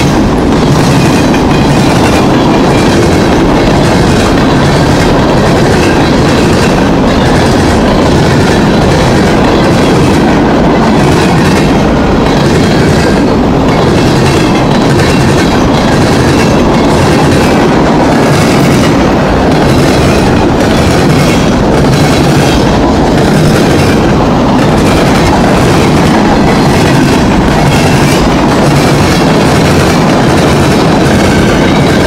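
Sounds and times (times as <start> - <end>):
steel wheels clattering on rails: 0.0 - 32.0.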